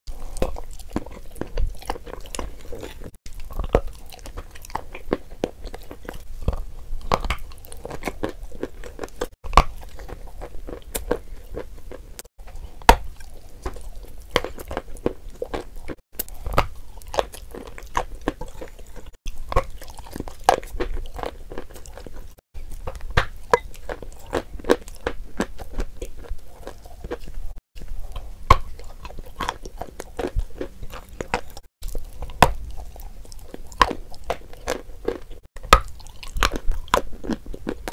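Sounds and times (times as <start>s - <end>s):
chewing crunchy chalk: 0.1s - 37.9s.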